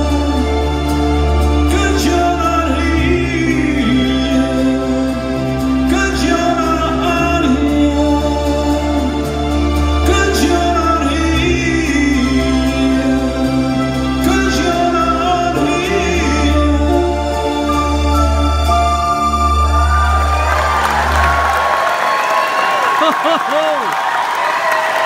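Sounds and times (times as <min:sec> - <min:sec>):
flute melody: 0:00.0 - 0:25.0.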